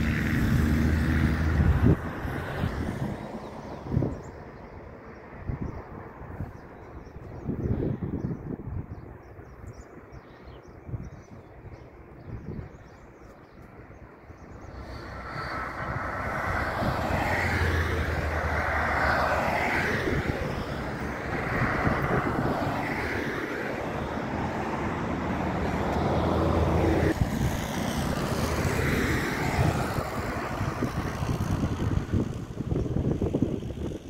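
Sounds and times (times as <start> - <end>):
cars passing on highway: 0.0 - 34.0.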